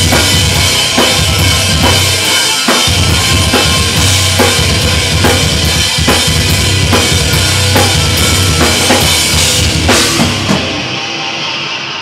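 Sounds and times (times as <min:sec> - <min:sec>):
bass guitar: 0:00.0 - 0:11.2
drum kit: 0:00.0 - 0:11.5
distorted electric guitar: 0:00.0 - 0:12.0.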